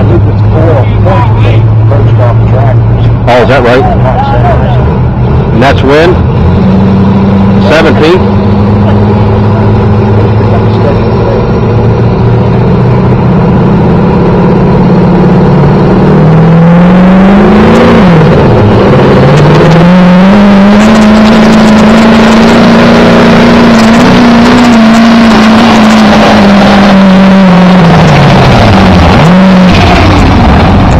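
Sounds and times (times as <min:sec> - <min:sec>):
diesel pickup engine revving: 0:00.0 - 0:30.9.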